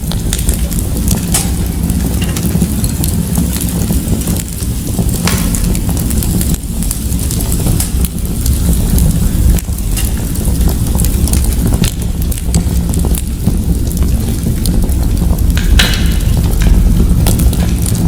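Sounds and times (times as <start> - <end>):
fire crackling and popping: 0.0 - 18.0
steady low fire rumble: 0.0 - 18.0.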